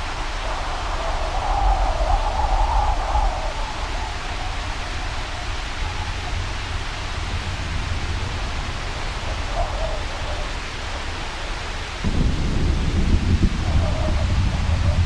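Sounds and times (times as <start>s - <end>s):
rain: 0.0s - 15.0s
wind noise: 0.0s - 15.0s.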